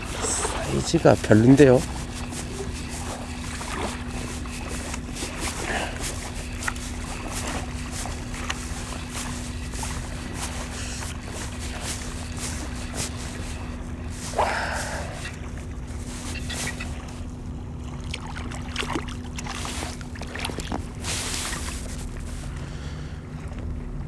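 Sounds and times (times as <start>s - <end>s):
faint steady hum: 0.0s - 24.0s
water lapping against kayak hull: 0.0s - 24.0s.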